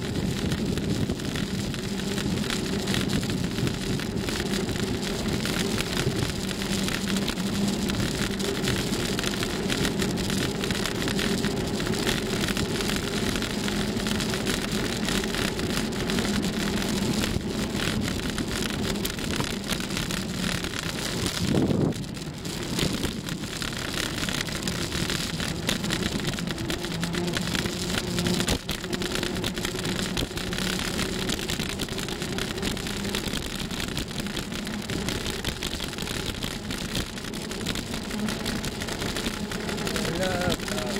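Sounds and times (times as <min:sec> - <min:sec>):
bicycle ride noise: 0:00.0 - 0:40.9.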